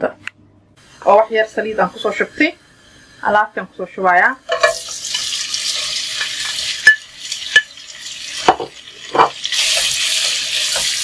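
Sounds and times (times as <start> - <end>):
sausage sizzling in hot oil: 0.8 - 11.0.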